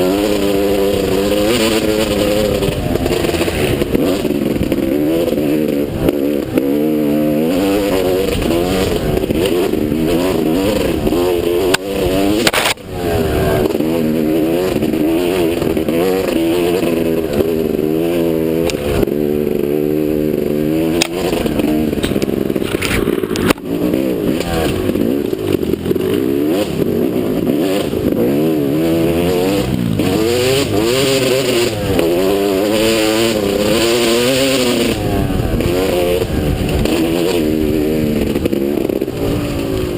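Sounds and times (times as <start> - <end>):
motocross motorcycle engine revving: 0.0 - 39.9.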